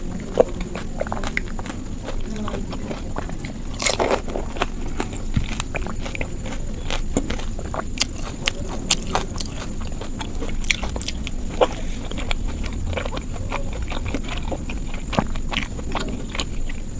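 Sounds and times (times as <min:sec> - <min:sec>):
lip and teeth clicks: 0:00.0 - 0:16.9
wet chewing and smacking: 0:00.0 - 0:16.9.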